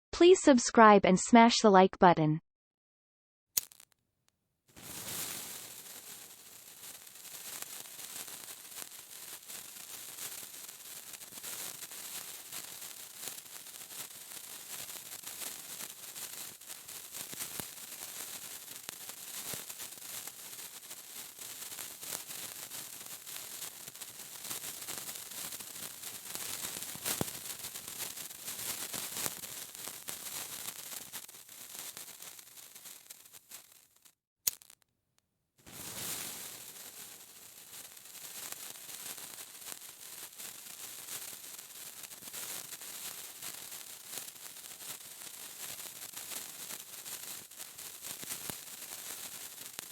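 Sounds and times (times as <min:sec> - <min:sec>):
sparkler fizzing and crackling: 0:03.6 - 0:03.9, 0:04.7 - 0:34.8, 0:35.7 - 0:49.9.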